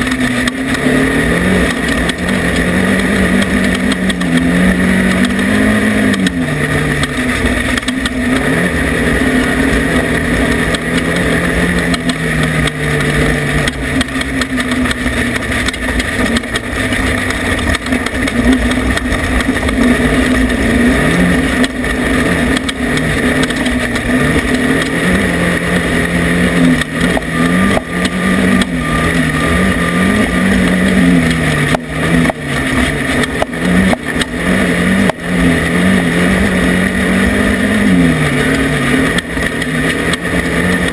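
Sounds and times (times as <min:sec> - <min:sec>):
race vehicle engine revving: 0:00.0 - 0:40.9
rush of noise: 0:00.0 - 0:40.9.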